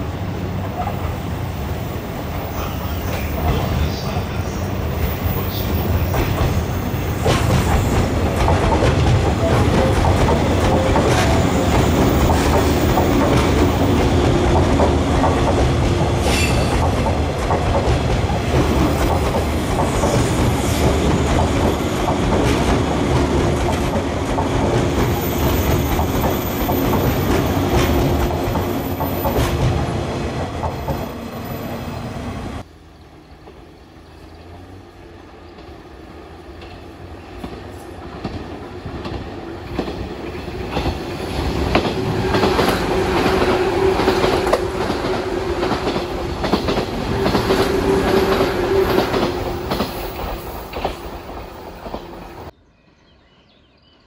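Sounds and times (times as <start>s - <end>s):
electric train passing: 0.0s - 52.6s.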